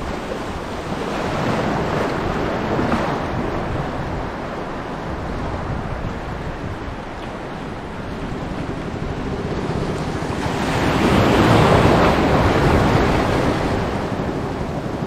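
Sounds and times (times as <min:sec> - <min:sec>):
rush of wind and water: 0:00.0 - 0:15.0.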